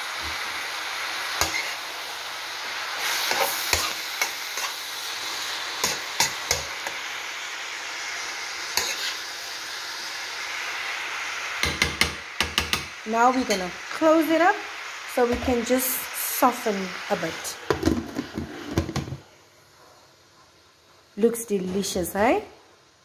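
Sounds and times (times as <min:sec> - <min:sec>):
vegetables sizzling in frying pan: 0:00.0 - 0:19.8.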